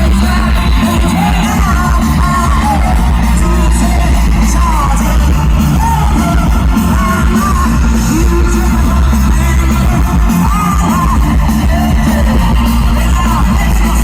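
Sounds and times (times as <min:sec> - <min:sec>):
electric guitar: 0:00.0 - 0:14.0
heavy bass: 0:00.0 - 0:14.0
singing voices: 0:00.0 - 0:14.0.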